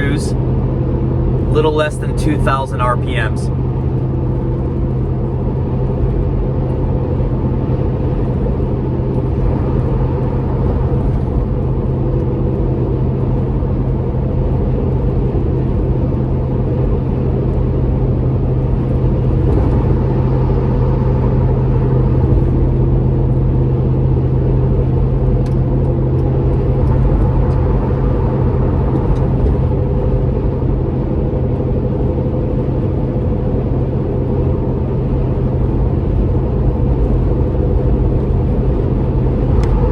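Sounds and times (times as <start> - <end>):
low exhaust drone: 0.0 - 39.9
road noise: 0.0 - 39.9.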